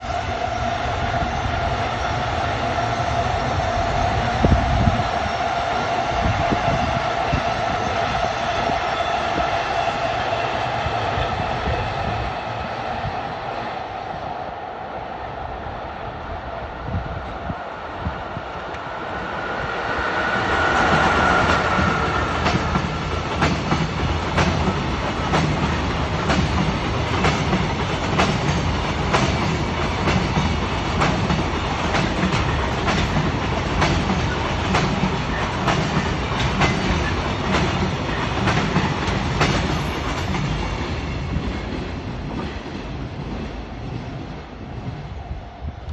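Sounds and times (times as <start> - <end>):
electric locomotive passing: 0.0 - 45.9.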